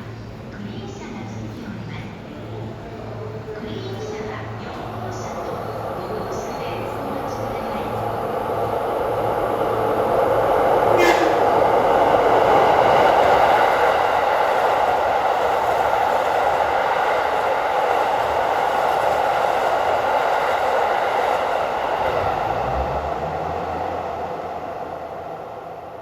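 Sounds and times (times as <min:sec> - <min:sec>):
train wagons rushing past: 0:04.7 - 0:26.0.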